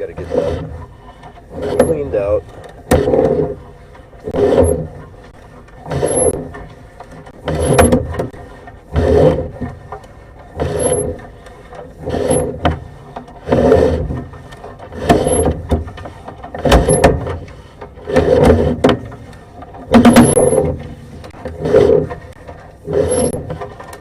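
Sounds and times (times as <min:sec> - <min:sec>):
cable scraping in a drain pipe: 0:00.0 - 0:24.0.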